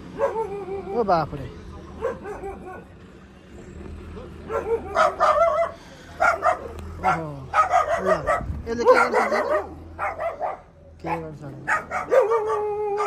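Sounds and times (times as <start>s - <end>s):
dogs barking: 0.0s - 1.0s, 1.9s - 3.0s, 4.4s - 13.0s.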